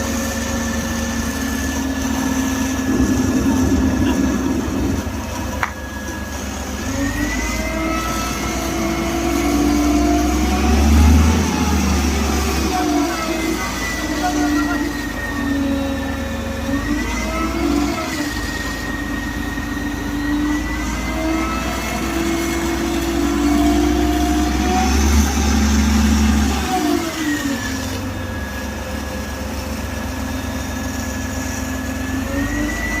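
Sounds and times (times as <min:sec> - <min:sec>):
motor humming: 0:00.0 - 0:29.7.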